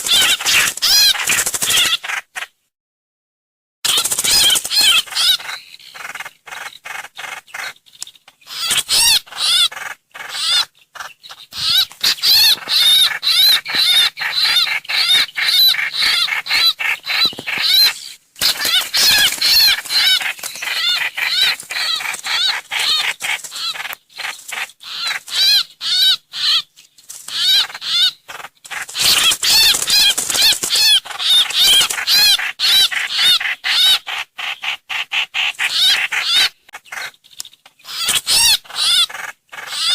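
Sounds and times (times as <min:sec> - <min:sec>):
songbird song: 0:03.9 - 0:39.9.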